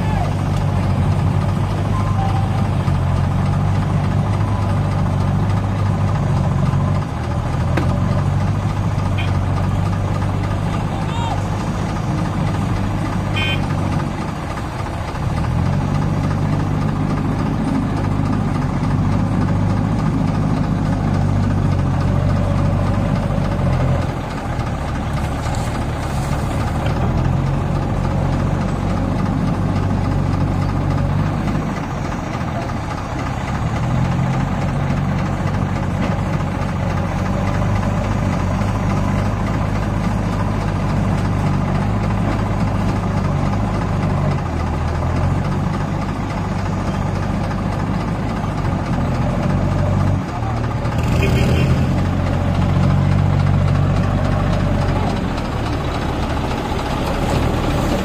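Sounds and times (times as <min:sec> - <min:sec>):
tractor diesel engine straining: 0:00.0 - 0:58.0.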